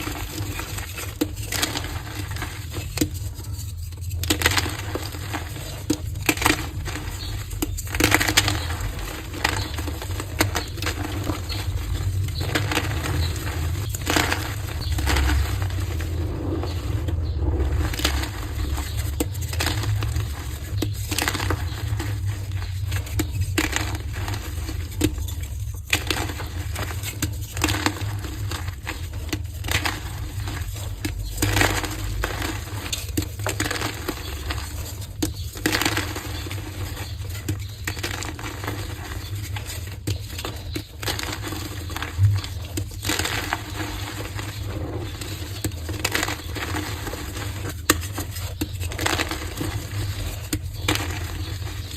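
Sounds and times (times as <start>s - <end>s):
chalk pieces crunching: 0.0s - 51.9s.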